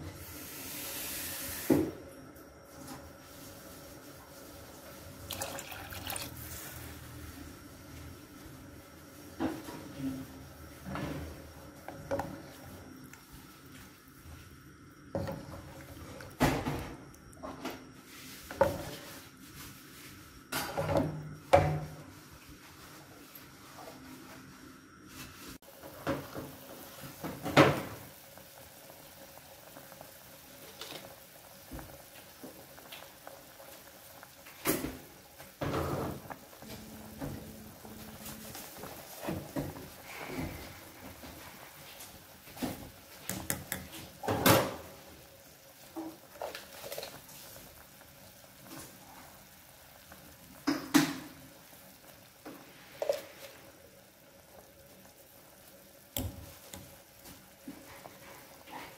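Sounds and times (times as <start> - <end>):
broth bubbling in pot: 3.2 - 20.4, 25.6 - 58.9.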